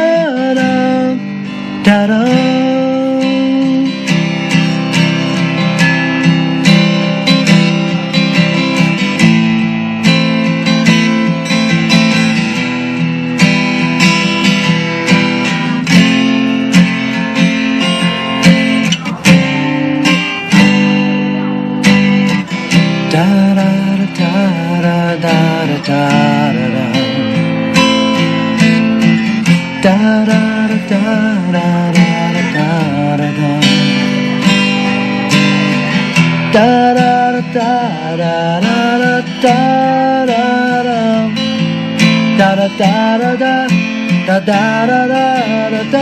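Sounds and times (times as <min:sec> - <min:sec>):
acoustic guitar strumming and plucking: 0:00.0 - 0:46.0.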